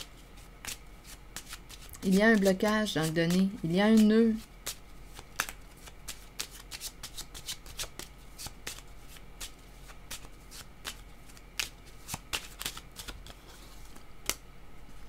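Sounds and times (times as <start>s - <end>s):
cards being shuffled: 0.0s - 14.4s.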